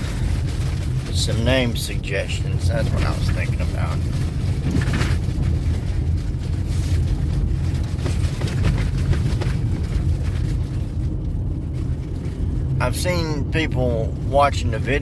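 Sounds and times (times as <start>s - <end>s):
car engine: 0.0s - 15.0s
road noise: 0.0s - 15.0s.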